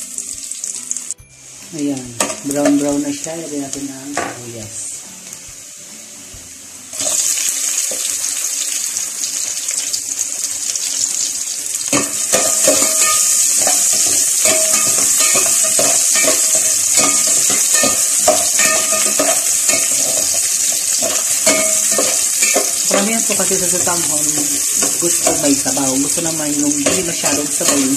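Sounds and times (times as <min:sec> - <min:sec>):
onion sizzling in hot oil: 0:00.0 - 0:27.9.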